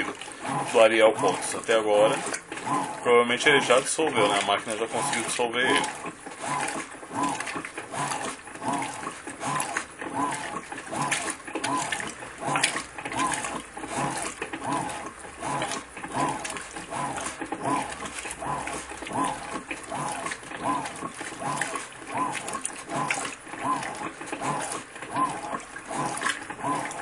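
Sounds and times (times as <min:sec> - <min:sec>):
washing machine motor humming: 0:00.0 - 0:27.0
water sloshing in tub: 0:00.0 - 0:27.0.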